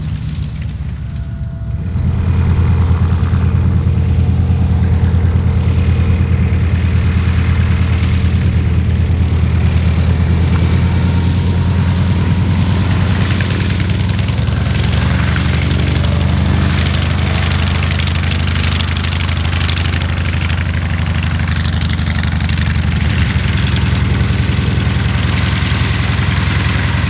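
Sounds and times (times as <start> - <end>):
propeller noise: 0.0 - 27.0
radial engine droning: 0.0 - 27.0.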